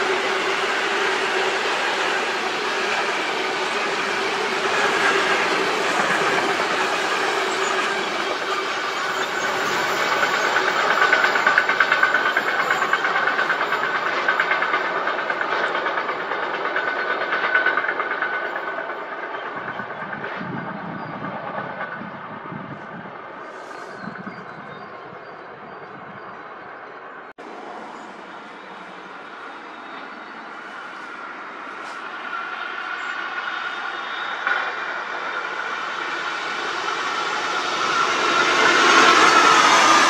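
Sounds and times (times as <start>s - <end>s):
train wheels clattering over rails: 0.0s - 25.6s, 27.4s - 40.0s.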